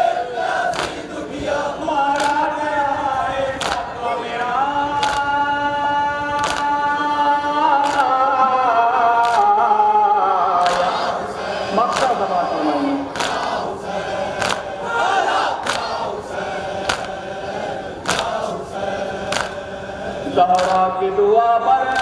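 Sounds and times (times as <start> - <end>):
men chanting in unison: 0.0 - 22.0
rhythmic chest-beating slaps: 0.1 - 12.4, 13.0 - 21.1, 21.8 - 22.0.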